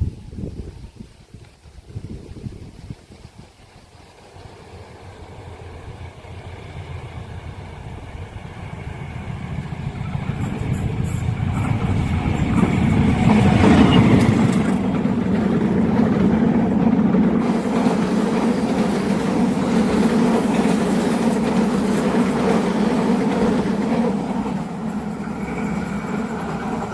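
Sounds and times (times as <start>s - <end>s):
diesel train engine rumble: 3.6s - 26.9s.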